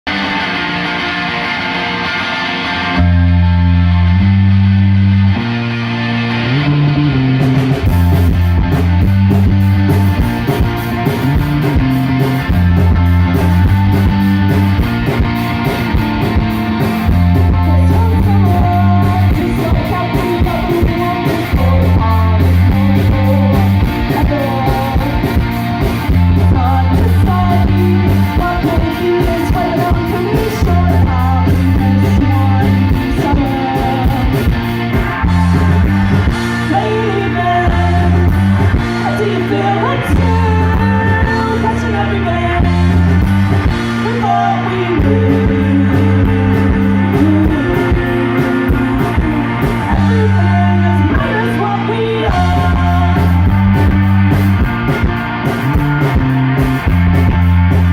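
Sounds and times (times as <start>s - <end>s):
band playing through pa: 0.0s - 57.9s.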